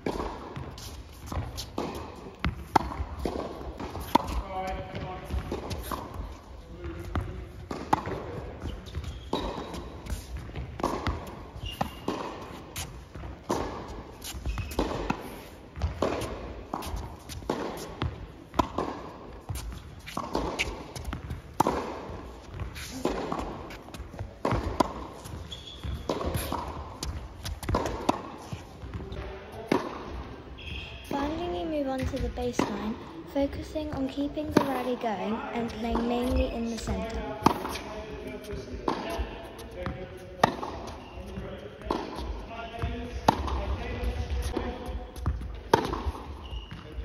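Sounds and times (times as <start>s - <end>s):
rackets striking tennis ball: 0.0s - 33.0s, 33.6s - 47.0s
tennis ball bouncing: 0.0s - 47.0s.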